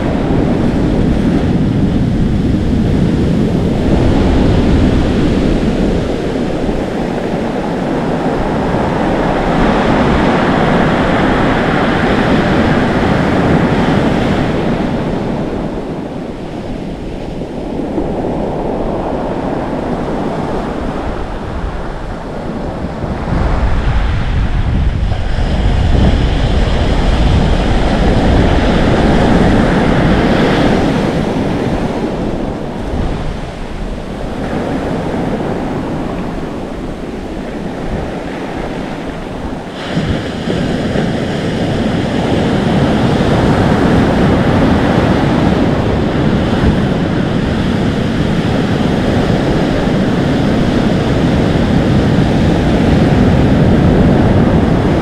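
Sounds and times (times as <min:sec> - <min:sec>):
surf breaking on shore: 0:00.0 - 0:55.0
wind on microphone: 0:00.0 - 0:55.0.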